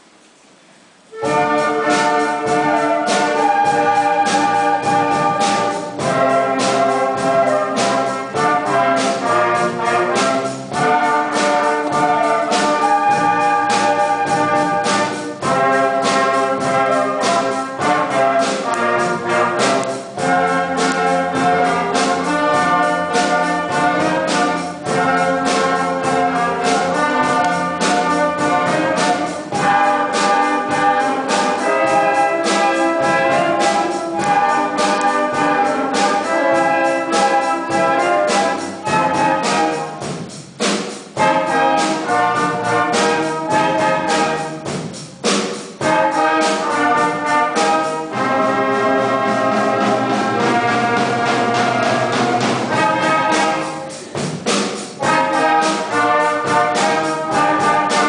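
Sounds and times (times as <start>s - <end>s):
steady drum beat: 1.1s - 58.0s
wind band playing rock piece: 1.1s - 58.0s.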